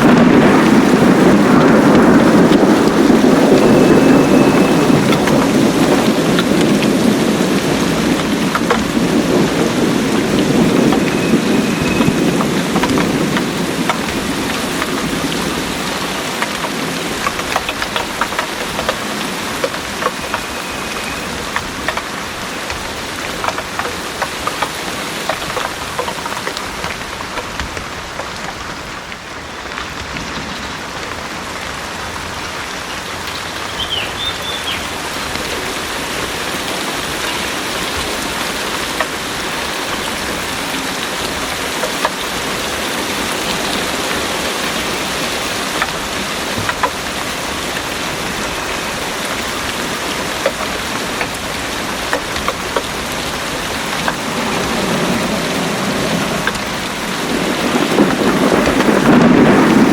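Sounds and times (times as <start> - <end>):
heavy rain pouring: 0.0 - 59.9
raindrops ticking: 0.0 - 59.9
thunder rumble: 0.0 - 59.9.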